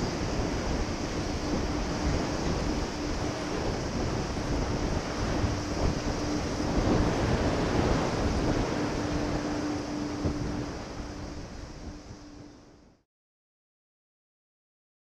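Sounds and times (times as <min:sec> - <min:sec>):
distant jet engines: 0:00.0 - 0:13.0
steady low hum: 0:00.0 - 0:13.0
wind rumbling on microphone: 0:00.0 - 0:13.0.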